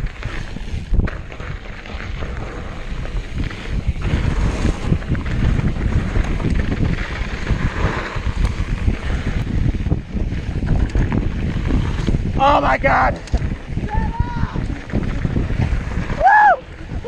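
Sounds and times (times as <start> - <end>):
tyres rumbling over dirt trail: 0.0 - 17.0
wind buffeting microphone: 0.0 - 17.0.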